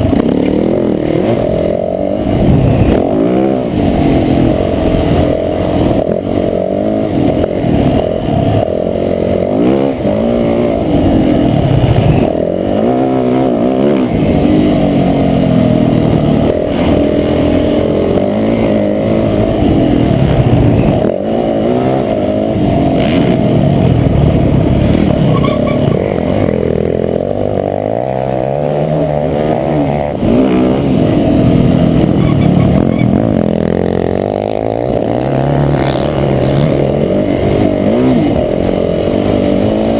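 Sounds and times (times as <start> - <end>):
muffled motorbike engine revving: 0.0 - 39.9.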